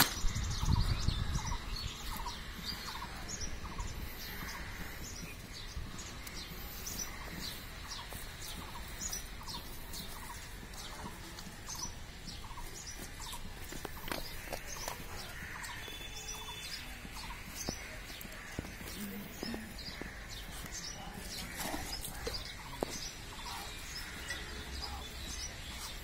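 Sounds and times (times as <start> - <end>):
birds high chirps: 0.0 - 26.0.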